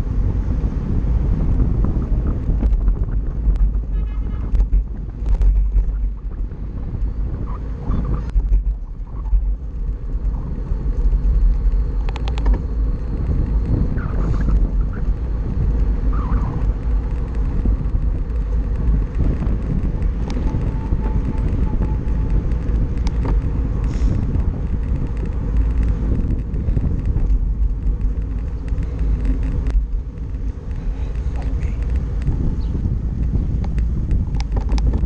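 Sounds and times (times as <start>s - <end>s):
tyre and road noise: 0.0s - 35.0s
wind buffeting microphone: 0.0s - 35.0s.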